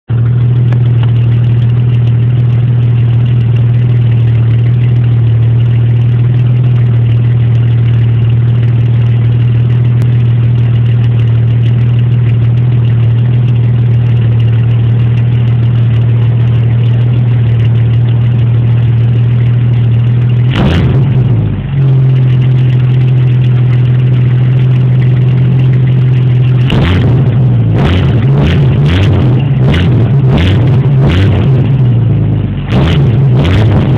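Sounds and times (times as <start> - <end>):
car exhaust idling: 0.0 - 33.9
engine throttle blip: 0.1 - 33.9.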